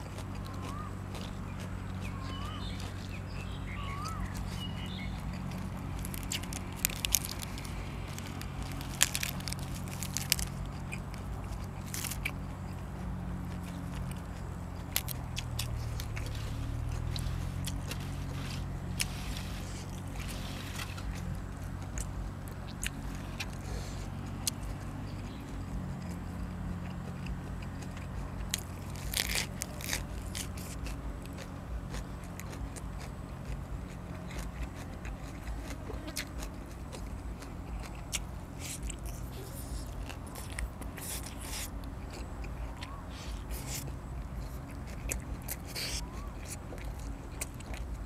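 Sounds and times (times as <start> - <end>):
crunchy bites: 0.0 - 48.0
person chewing food: 0.0 - 48.0
steady low hum: 0.0 - 48.0.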